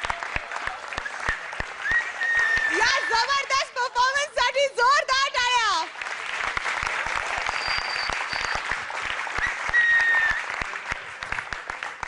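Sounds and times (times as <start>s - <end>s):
audience applauding: 0.0s - 3.7s, 5.8s - 12.0s.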